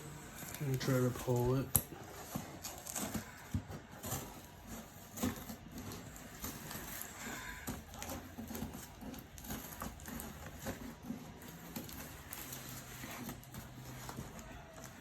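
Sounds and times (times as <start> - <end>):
cardboard box being cut: 0.0 - 15.0
plastic wrap pulled by hand: 0.0 - 15.0.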